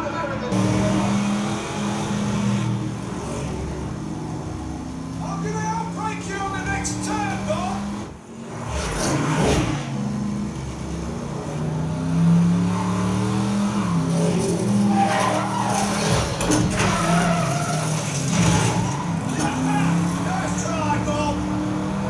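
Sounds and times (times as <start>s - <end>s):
race car engines revving: 0.0s - 22.0s
tyres skidding: 0.0s - 22.0s.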